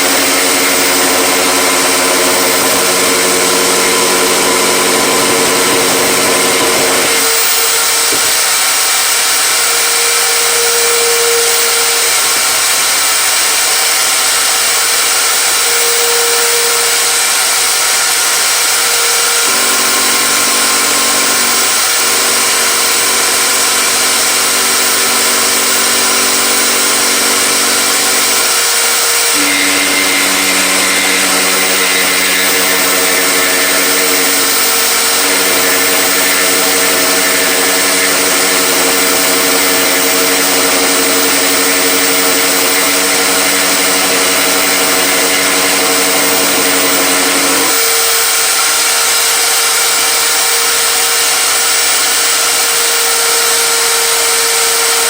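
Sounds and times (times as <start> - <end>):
electric power tool whine: 0.0 - 55.0.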